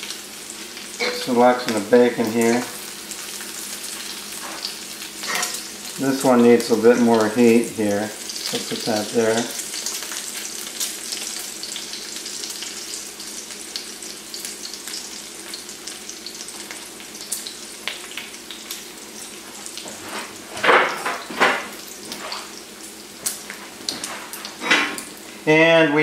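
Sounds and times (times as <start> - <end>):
bacon sizzling in grease: 0.0 - 26.0.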